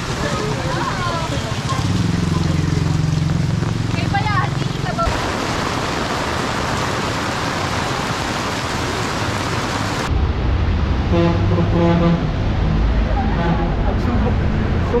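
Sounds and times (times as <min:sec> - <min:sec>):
heavy rain on a street: 0:00.0 - 0:15.0
low traffic rumble: 0:00.0 - 0:15.0.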